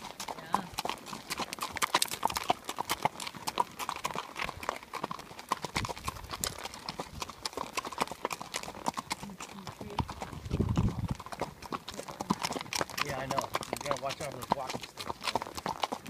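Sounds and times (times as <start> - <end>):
horse hooves on gravel: 0.0 - 16.0.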